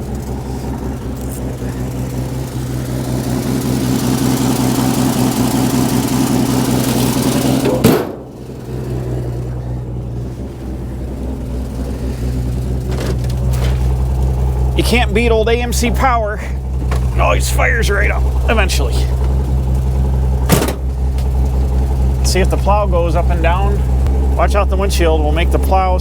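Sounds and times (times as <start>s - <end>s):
engine fast idling: 0.0s - 26.0s.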